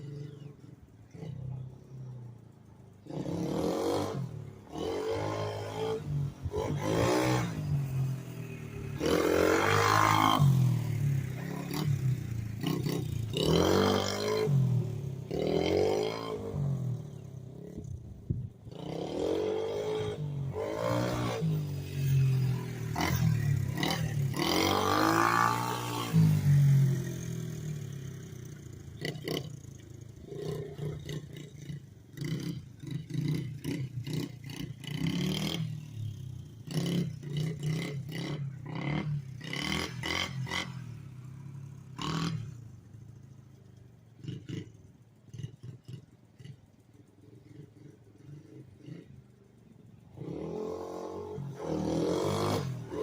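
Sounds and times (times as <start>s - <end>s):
small motorbike engine revving: 3.0s - 53.0s.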